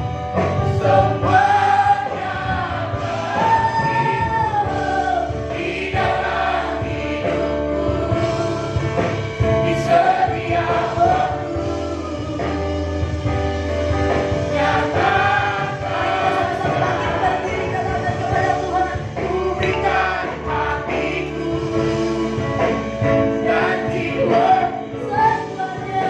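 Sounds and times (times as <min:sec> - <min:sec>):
group singing with instruments: 0:00.0 - 0:26.0.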